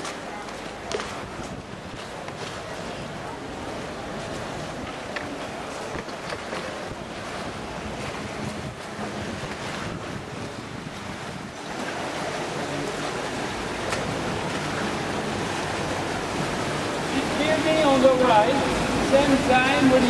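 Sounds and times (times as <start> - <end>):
water rushing around a boat: 0.0 - 20.0
wind on microphone: 0.7 - 17.9.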